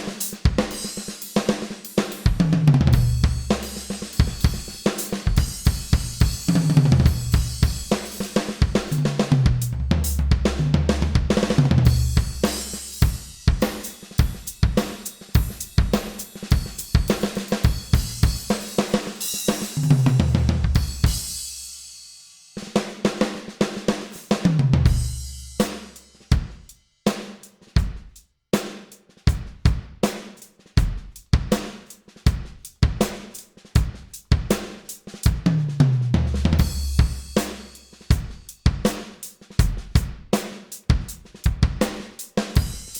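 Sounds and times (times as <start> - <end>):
electronic drum kit solo: 0.0 - 21.6, 23.0 - 26.6, 32.3 - 42.9.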